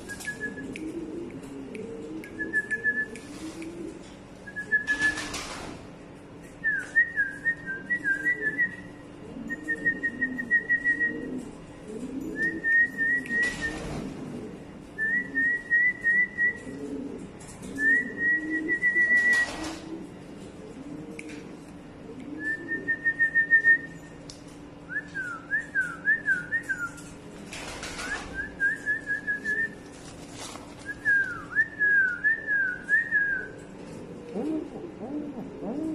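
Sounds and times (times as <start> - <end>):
pigeon cooing: 0.0 - 5.7, 6.6 - 24.2, 24.9 - 35.9.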